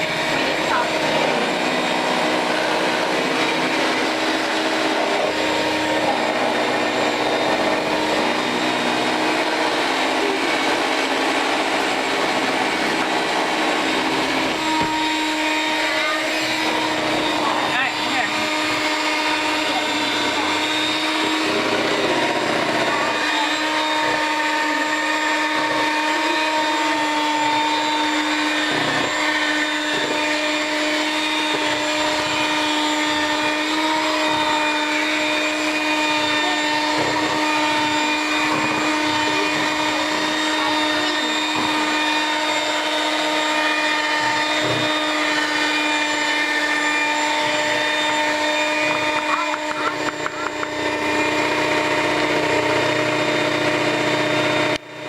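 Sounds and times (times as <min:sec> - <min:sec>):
electric mixer beating batter: 0:00.0 - 0:55.0.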